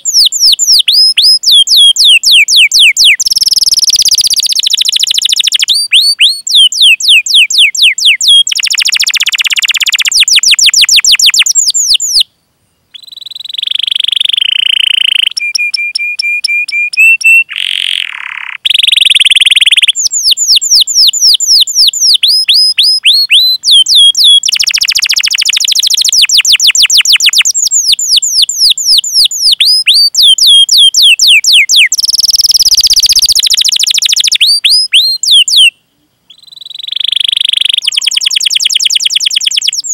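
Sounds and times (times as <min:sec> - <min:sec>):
canary singing: 0:00.0 - 0:12.3, 0:12.9 - 0:39.9.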